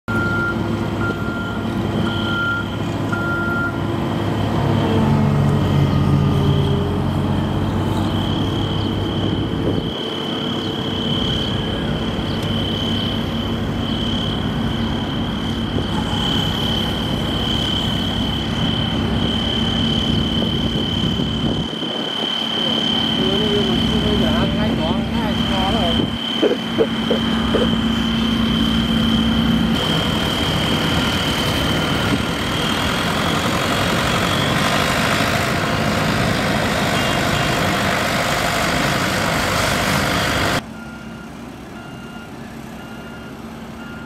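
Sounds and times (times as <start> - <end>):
steady high whine: 0.1 - 40.6
machinery engines running: 0.1 - 44.0
reversing alarm beeping: 0.1 - 44.0.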